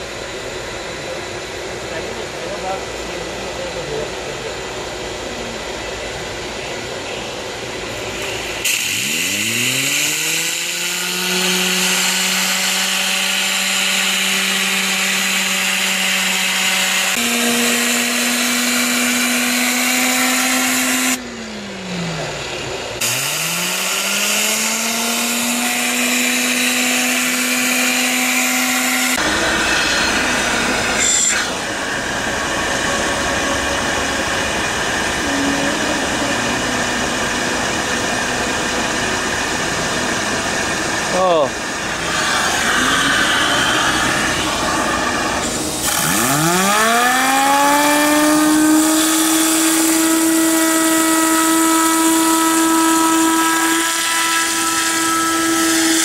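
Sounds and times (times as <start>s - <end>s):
vacuum cleaner motor whining: 5.2s - 56.0s.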